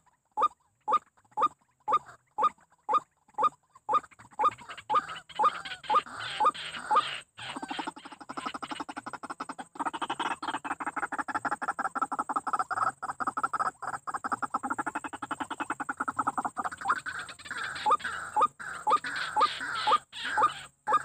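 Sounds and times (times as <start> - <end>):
bird calling repeated notes: 0.4 - 11.2, 14.6 - 21.0.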